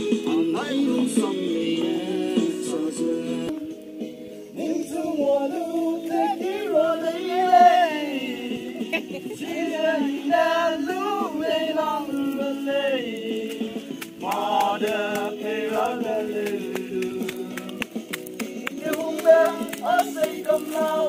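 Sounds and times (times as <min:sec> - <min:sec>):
voices singing together: 0:00.0 - 0:21.0.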